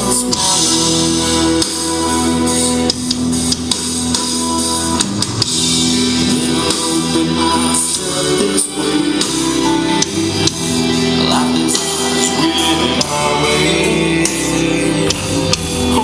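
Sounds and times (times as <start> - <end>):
rock song with guitar and drums: 0.0 - 16.0.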